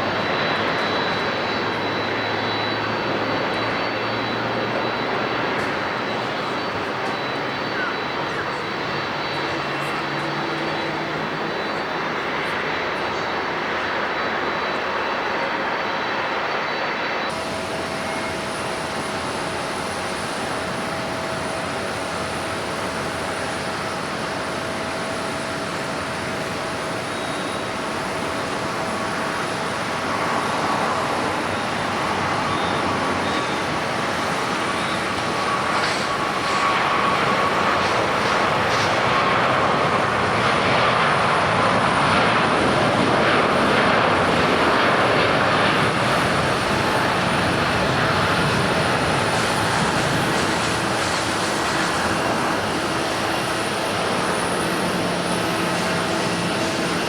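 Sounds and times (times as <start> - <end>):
faint jet whine: 0.0 - 57.0
jet engine roar on takeoff: 0.0 - 57.0.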